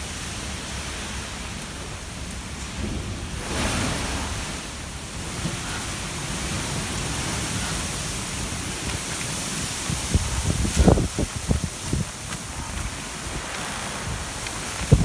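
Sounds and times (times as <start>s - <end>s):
wind rumble on microphone: 0.0s - 15.0s
typhoon wind rushing: 1.9s - 15.0s.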